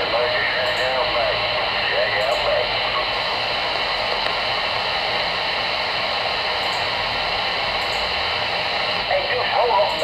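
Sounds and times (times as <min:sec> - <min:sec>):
cb radio static hiss: 0:00.0 - 0:10.0.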